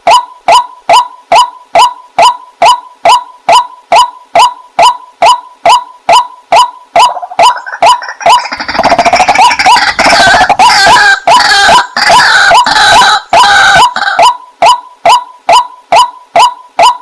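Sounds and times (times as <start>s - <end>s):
chorus of bird calls: 0.1s - 17.0s
waterhen calling: 0.1s - 17.0s.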